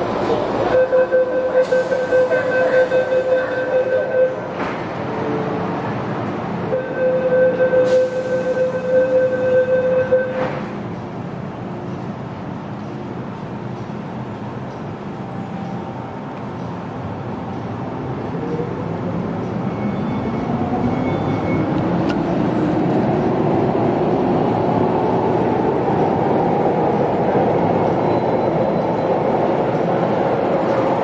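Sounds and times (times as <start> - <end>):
metro train rumble: 0.0 - 31.0.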